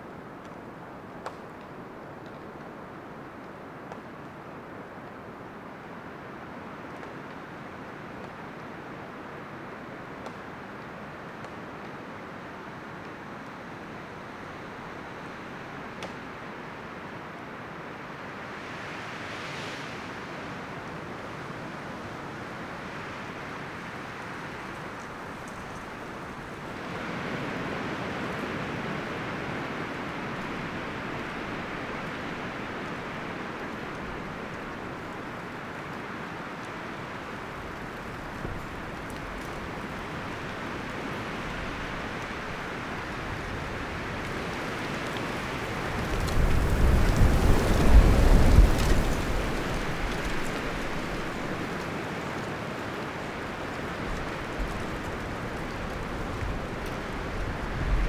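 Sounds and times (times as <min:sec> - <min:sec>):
wind rustling through trees: 0:00.0 - 0:58.0.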